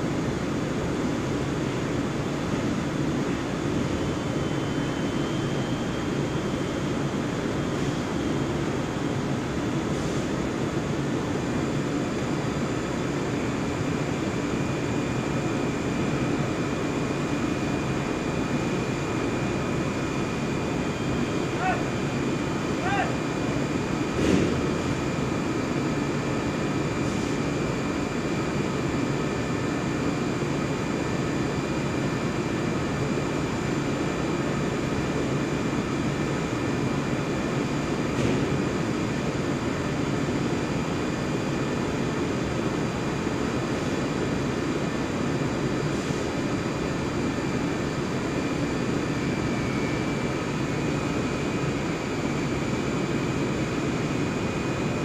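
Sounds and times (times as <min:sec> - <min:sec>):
high-pitched machine whine: 0:00.0 - 0:55.0
steady machine drone: 0:00.0 - 0:55.0.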